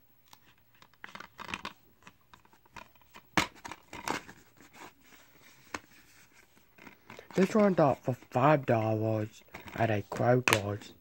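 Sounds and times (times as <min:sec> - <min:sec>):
plastic cases rustling and scraping: 0:00.3 - 0:10.8.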